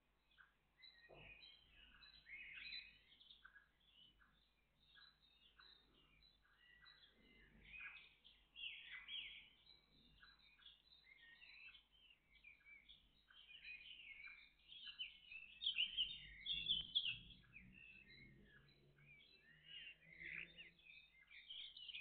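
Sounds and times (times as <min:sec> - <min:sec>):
songbirds singing and chirping: 0:00.0 - 0:22.0.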